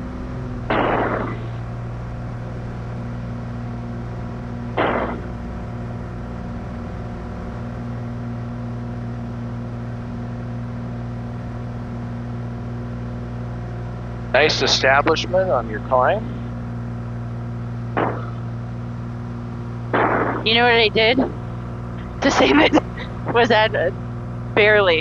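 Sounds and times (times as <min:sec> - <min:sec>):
light aircraft engine drone: 0:00.0 - 0:25.0.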